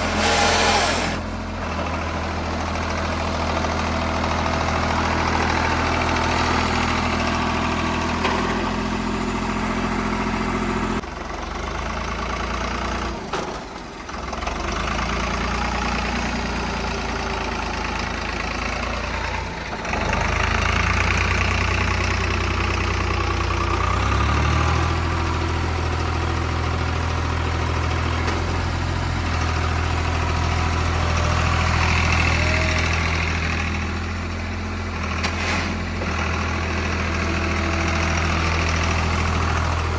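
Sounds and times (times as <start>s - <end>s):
tractor engine revving: 0.0s - 13.2s, 14.1s - 39.9s.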